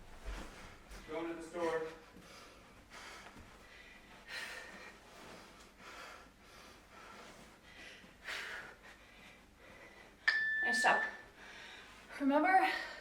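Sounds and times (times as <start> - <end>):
person breathing heavily: 0.6 - 10.2, 11.2 - 13.0.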